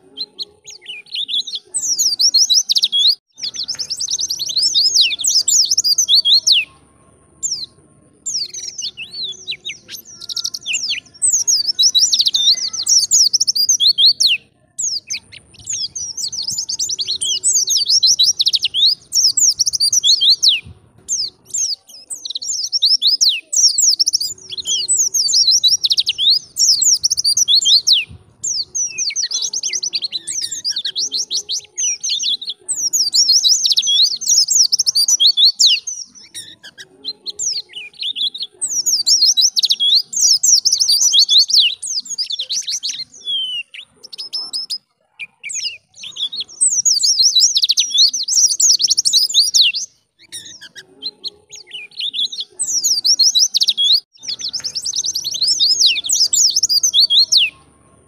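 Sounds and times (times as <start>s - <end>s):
bird twittering song: 0.0s - 58.0s.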